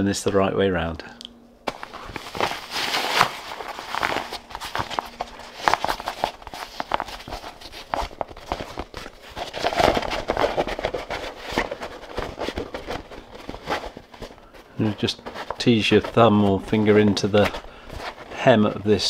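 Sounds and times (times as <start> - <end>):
stiff fabric rustling and crinkling: 1.6 - 19.0.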